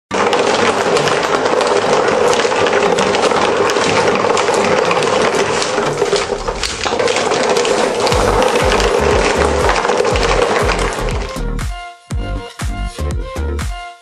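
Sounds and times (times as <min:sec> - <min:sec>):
marbles clicking and rolling: 0:00.1 - 0:11.6.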